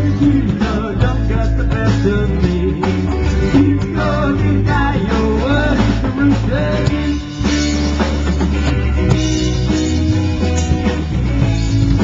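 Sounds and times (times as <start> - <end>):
bass guitar: 0.0 - 12.0
drums: 0.0 - 12.0
electric guitar: 0.0 - 12.0.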